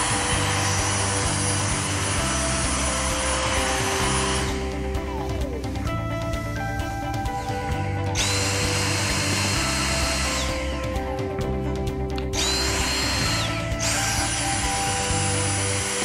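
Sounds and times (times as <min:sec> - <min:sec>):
vacuum motor whine: 0:00.0 - 0:16.0.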